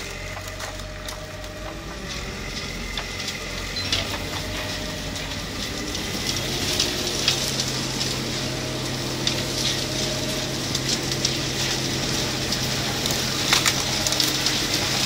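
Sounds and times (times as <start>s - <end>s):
excavator engine running: 0.0s - 15.0s
wood cracking and splintering: 0.0s - 15.0s.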